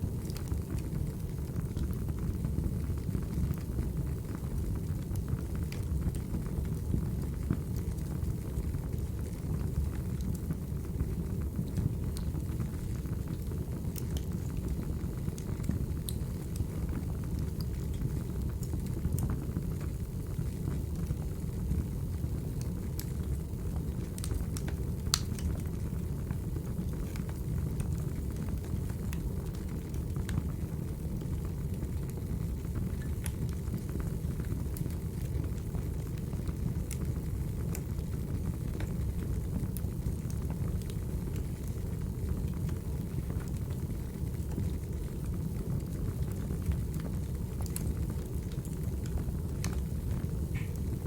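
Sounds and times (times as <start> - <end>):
fire crackles and pops: 0.0 - 51.0
wood fire burning: 0.0 - 51.0.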